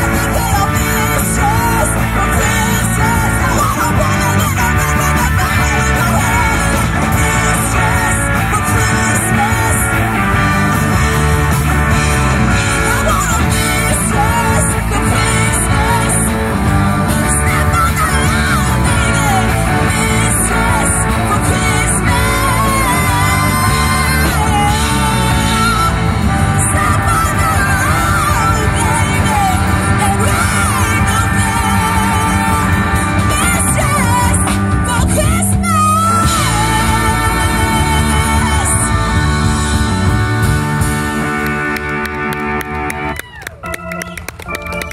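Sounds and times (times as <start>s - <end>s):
woman singing lead: 0.0s - 41.4s
drum kit: 0.0s - 44.9s
electric guitars: 0.0s - 44.9s
keyboard: 0.0s - 44.9s.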